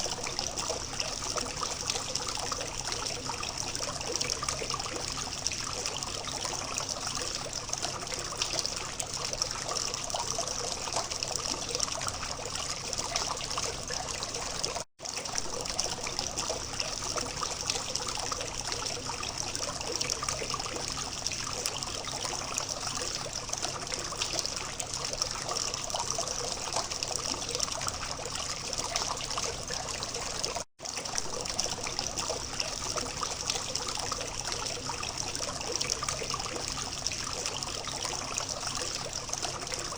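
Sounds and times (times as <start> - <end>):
fountain water trickling and splashing: 0.0 - 39.9.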